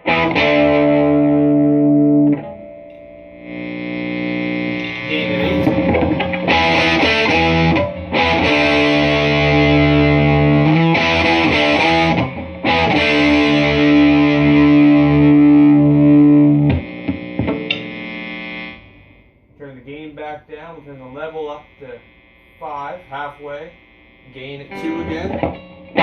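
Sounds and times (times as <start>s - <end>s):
distorted electric guitar chords: 0.0s - 26.0s.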